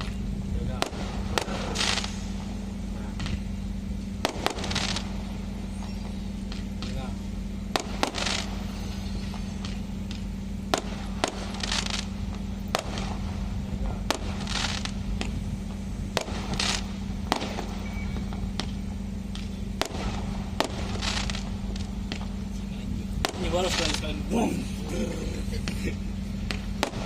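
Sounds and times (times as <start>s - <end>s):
fireworks bangs: 0.0s - 27.0s
high crackling bursts: 0.0s - 27.0s
steady low hum: 0.0s - 27.0s.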